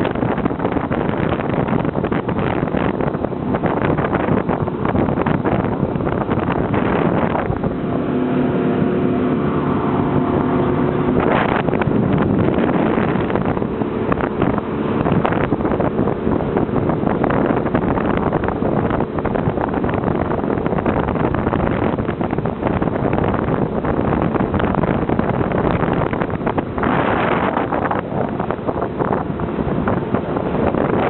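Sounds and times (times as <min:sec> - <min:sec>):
motorboat engine running: 0:00.0 - 0:31.0
wind buffeting microphone: 0:00.0 - 0:31.0.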